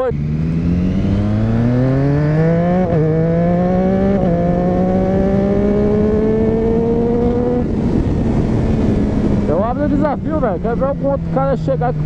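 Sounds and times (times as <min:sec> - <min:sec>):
motorcycle engine accelerating: 0:00.0 - 0:12.0
road noise: 0:00.0 - 0:12.0
rushing wind: 0:00.0 - 0:12.0.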